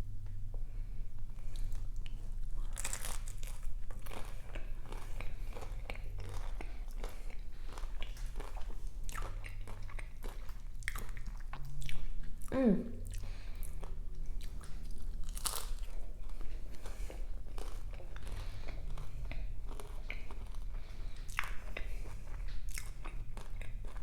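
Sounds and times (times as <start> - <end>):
chewing crispy fried chicken: 0.4 - 24.0.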